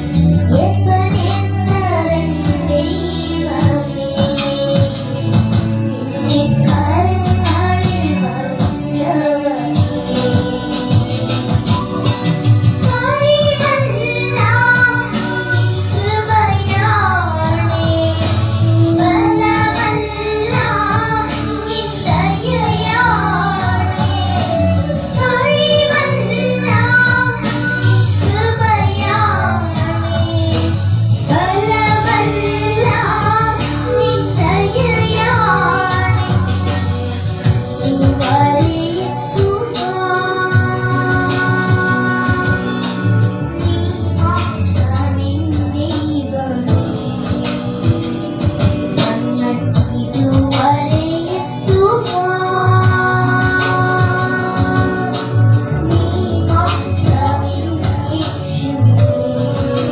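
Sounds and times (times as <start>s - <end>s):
girls singing into microphones: 0.0s - 59.9s
instrumental backing: 0.0s - 59.9s.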